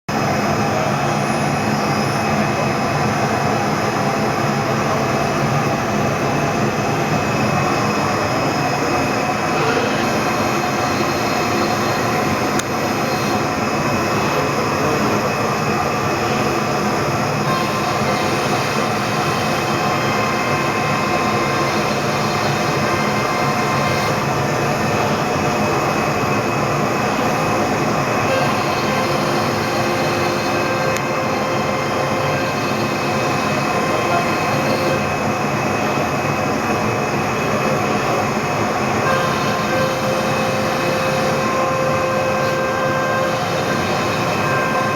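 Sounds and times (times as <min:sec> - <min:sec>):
router machine whining and hissing: 0:00.1 - 0:44.9.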